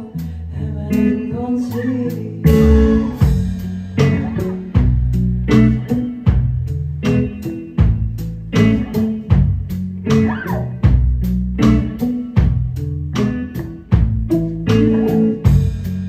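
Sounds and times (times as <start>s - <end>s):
instrumental band music: 1.0s - 16.0s.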